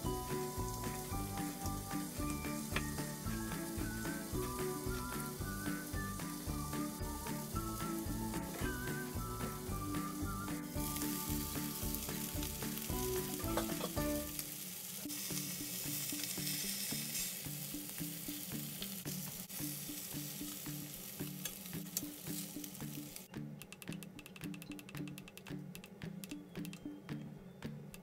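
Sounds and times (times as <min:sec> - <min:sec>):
food sizzling in a pan: 0:00.0 - 0:23.3
background music: 0:00.0 - 0:28.0.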